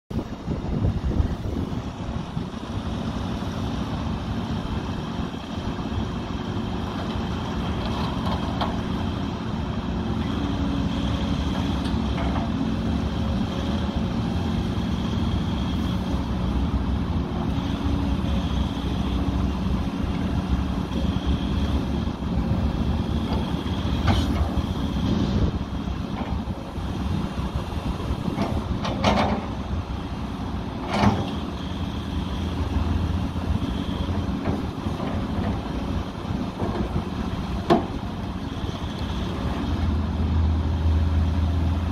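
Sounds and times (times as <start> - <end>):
excavator diesel engine running: 0.1 - 41.9.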